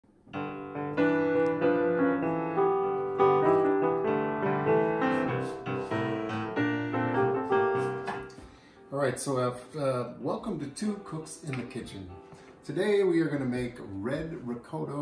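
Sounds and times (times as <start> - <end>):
piano notes ringing: 0.1 - 15.0.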